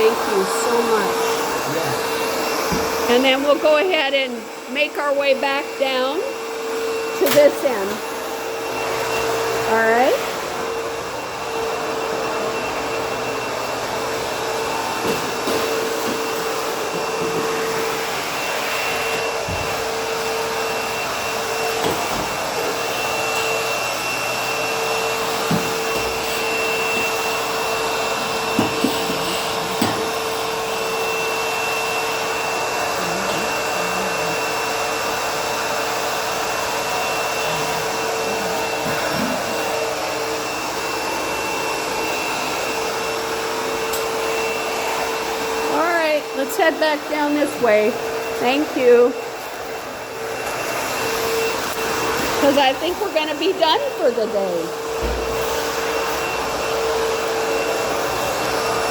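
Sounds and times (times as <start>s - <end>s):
vacuum motor whine: 0.0s - 58.9s.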